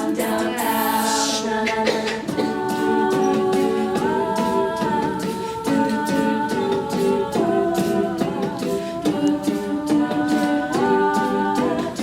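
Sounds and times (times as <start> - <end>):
a cappella group singing chords: 0.0 - 12.0
vocal percussion beat: 0.0 - 12.0.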